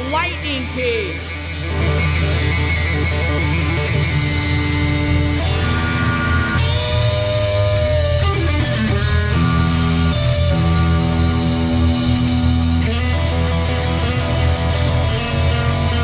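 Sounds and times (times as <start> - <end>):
bass guitar: 0.0 - 16.0
drums: 0.0 - 16.0
electric guitar bending notes: 0.0 - 16.0.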